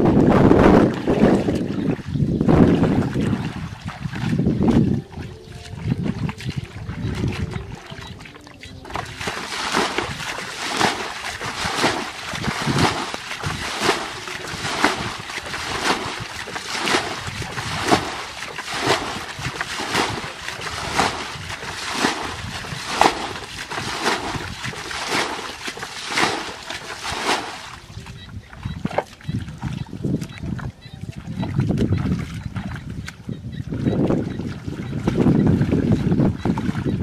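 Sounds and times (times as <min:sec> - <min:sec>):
bucket scooping water splashes: 0:00.0 - 0:37.0
water sloshing and spattering: 0:00.2 - 0:33.2.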